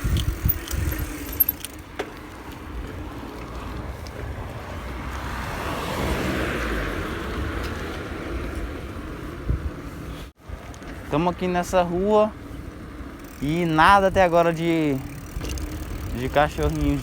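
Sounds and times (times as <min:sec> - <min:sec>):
street traffic rumble: 0:00.0 - 0:17.0
vehicle passing: 0:00.2 - 0:17.0.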